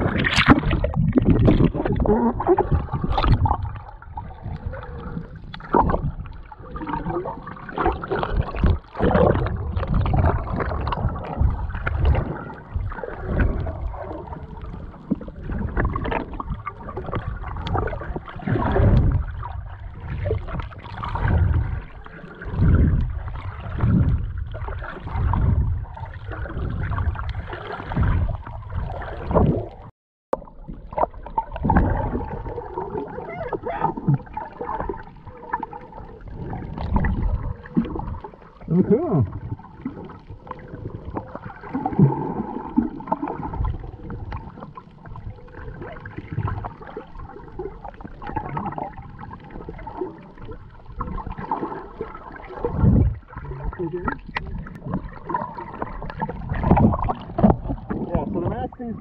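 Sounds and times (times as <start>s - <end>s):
underwater water sloshing and gurgling: 0.0s - 59.0s.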